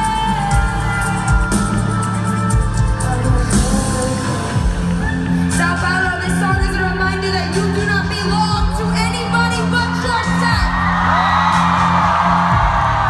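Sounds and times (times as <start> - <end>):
woman singing: 0.0 - 10.7
live pop music: 0.0 - 13.0.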